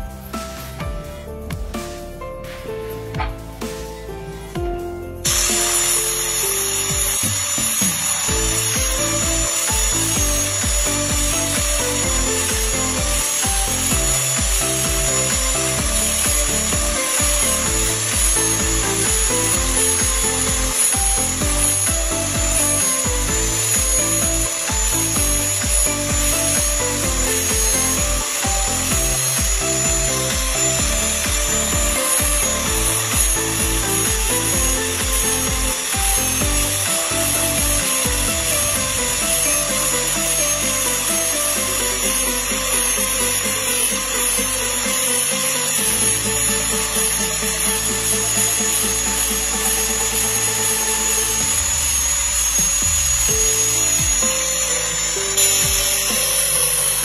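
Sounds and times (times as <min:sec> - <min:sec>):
background music: 0:00.0 - 0:57.0
grinder disc grinding steel: 0:05.2 - 0:57.0.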